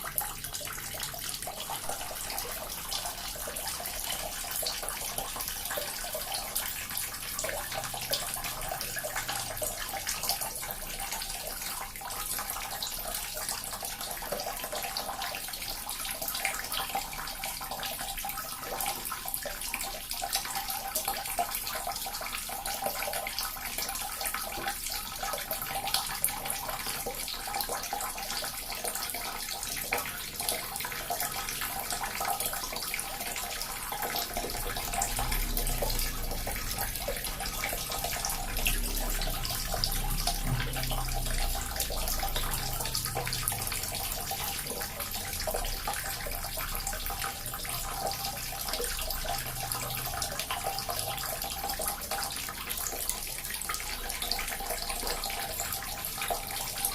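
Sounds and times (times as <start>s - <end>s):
small fountain water trickling: 0.0s - 56.9s.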